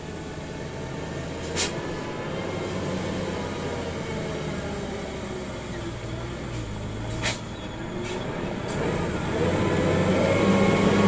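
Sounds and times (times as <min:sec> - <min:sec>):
truck diesel engine labouring: 0:00.0 - 0:11.0.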